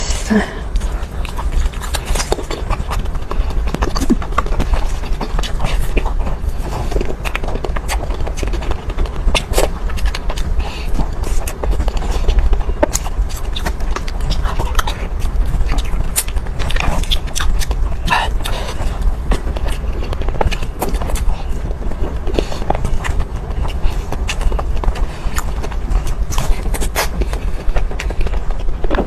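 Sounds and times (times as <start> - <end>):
chewing with mouth clicks: 0.0 - 29.0
low rumble: 0.0 - 29.0.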